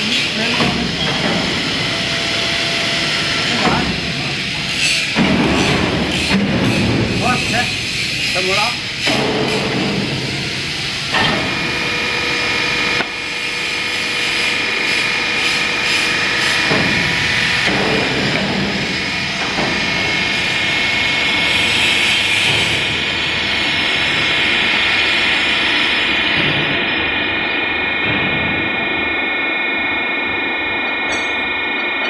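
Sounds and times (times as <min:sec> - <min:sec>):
hydraulic power unit humming: 0:00.0 - 0:32.0.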